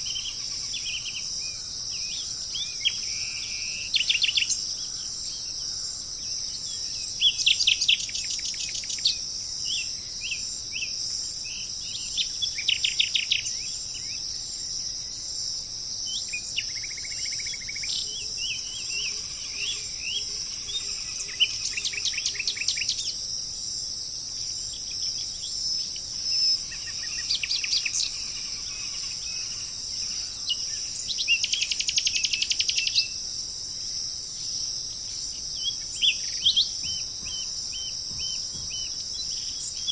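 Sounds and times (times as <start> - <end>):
insects droning: 0.0 - 39.9
songbirds trilling and chirping: 0.0 - 39.9.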